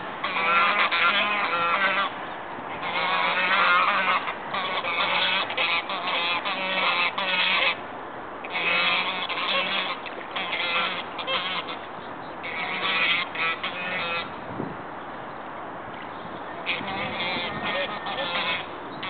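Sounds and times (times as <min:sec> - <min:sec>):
geese honking: 0:00.0 - 0:07.8, 0:08.4 - 0:14.4, 0:16.5 - 0:19.0.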